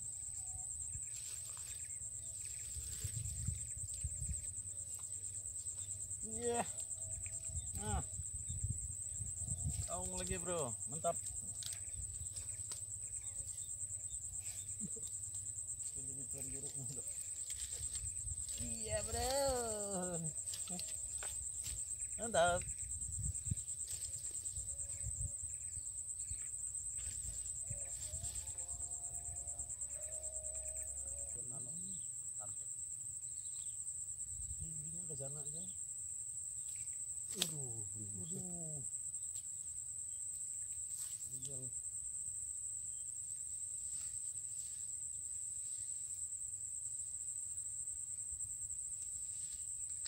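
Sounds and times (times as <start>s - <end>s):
insect trill: 0.0s - 50.0s.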